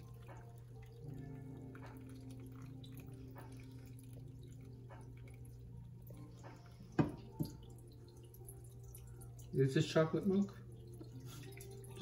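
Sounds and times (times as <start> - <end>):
liquid trickling and dripping: 0.0 - 12.0.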